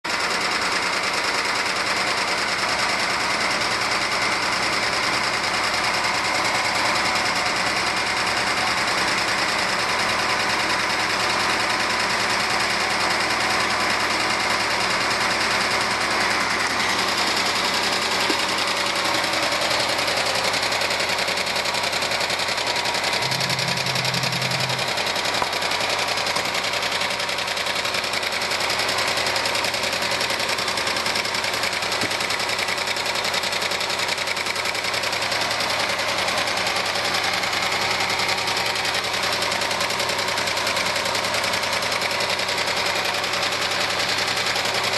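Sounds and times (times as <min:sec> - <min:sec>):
car engine idling with ticking: 0:00.1 - 0:44.9.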